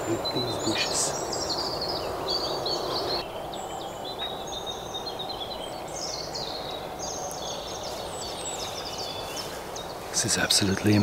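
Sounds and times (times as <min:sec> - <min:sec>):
low background noise: 0:00.0 - 0:11.0
songbirds warbling: 0:00.0 - 0:11.0.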